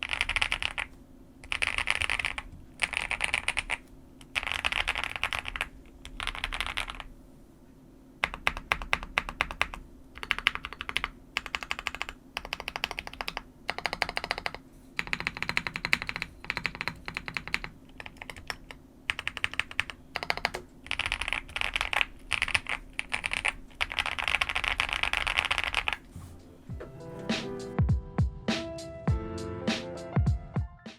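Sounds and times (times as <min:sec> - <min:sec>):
mechanical keyboard typing: 0:00.0 - 0:07.1, 0:08.2 - 0:26.0.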